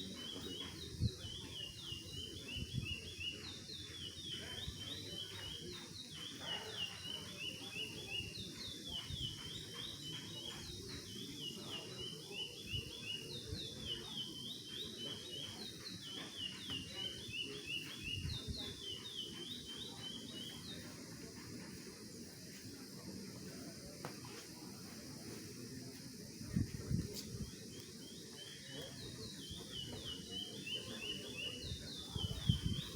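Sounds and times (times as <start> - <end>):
songbird chirping: 0.0 - 32.9.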